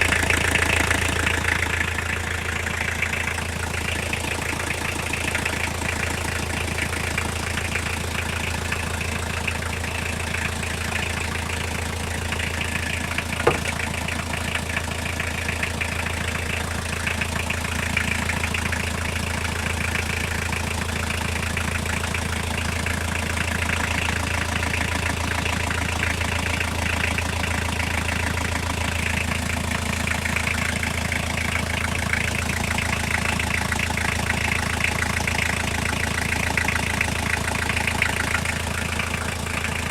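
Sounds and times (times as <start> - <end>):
diesel engine idling: 0.0 - 39.9
rhythmic engine knock: 0.0 - 39.9.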